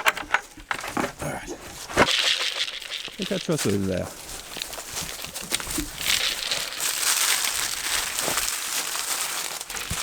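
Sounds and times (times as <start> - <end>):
rustling crackling noise: 0.0 - 10.0.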